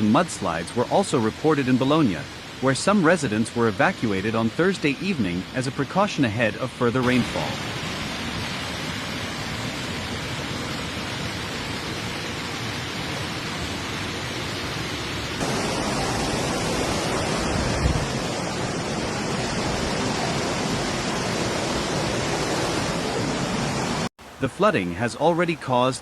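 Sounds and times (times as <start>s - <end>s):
fast-flowing floodwater rushing: 0.0s - 26.0s.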